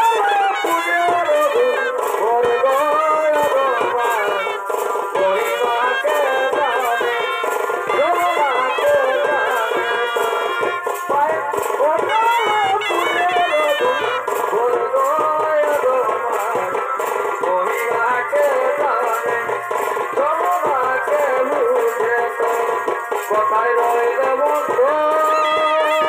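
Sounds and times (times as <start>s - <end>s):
steady drumming: 0.0s - 26.0s.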